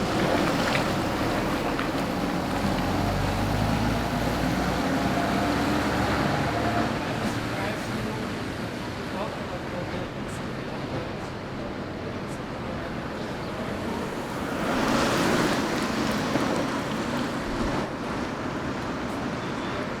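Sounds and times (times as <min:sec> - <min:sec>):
street traffic rushing: 0:00.0 - 0:20.0.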